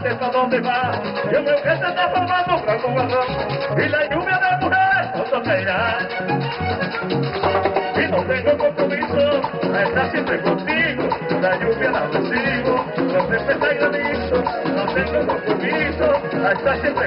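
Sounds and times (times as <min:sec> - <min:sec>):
accordion melody: 0:00.0 - 0:17.0
bass beat: 0:00.0 - 0:17.0.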